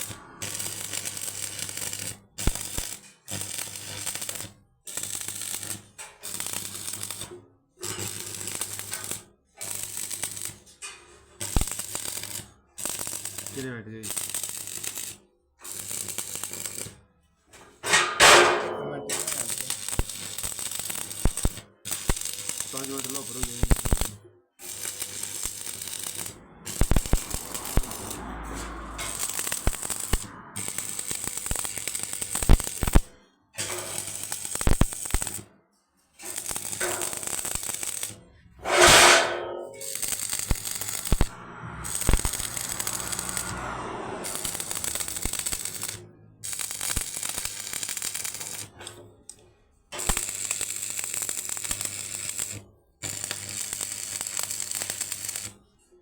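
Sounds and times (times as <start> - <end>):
electric arc welding crackle: 0.0 - 10.7, 11.4 - 17.0, 17.9 - 35.5, 36.2 - 48.9, 50.0 - 55.6.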